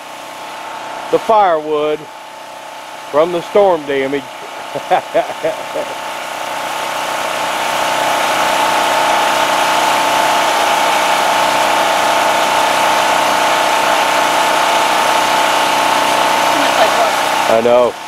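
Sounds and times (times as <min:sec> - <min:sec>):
generator engine running: 0:00.0 - 0:18.0.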